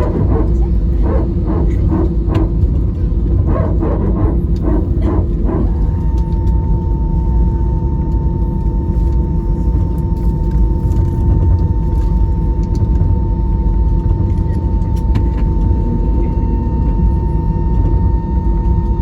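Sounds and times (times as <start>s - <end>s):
engine and airflow rumble: 0.0s - 19.0s
steady hum: 0.0s - 19.0s.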